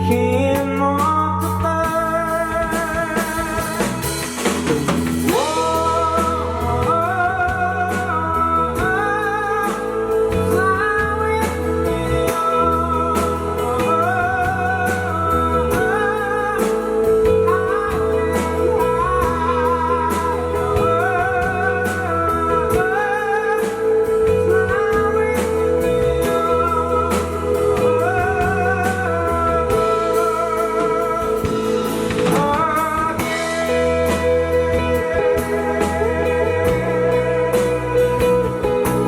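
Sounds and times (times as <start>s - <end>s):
bass guitar: 0.0s - 39.0s
guitar: 0.0s - 39.0s
person singing: 0.0s - 39.0s
steady drum beat: 0.0s - 39.0s.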